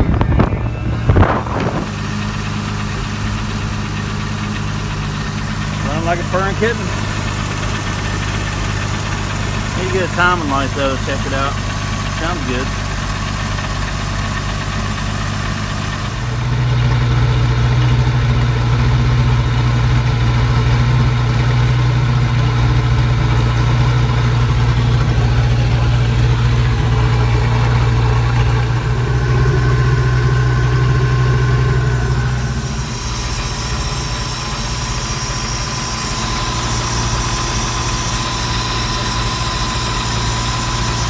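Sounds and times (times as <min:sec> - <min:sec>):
boat engine idling: 0:00.0 - 0:41.0.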